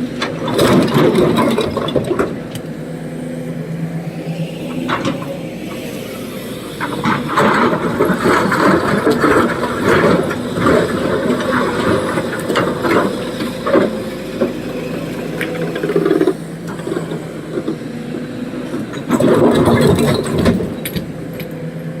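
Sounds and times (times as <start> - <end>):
excavator diesel engine humming: 0.0 - 22.0.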